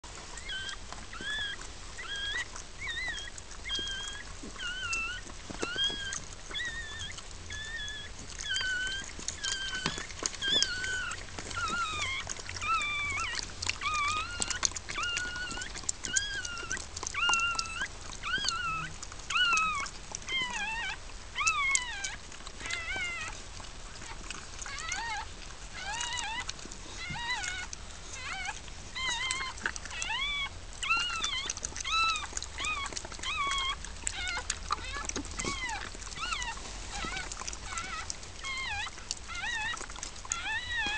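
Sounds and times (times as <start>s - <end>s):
puppy squeaking cries: 0.4s - 23.4s, 24.0s - 40.9s.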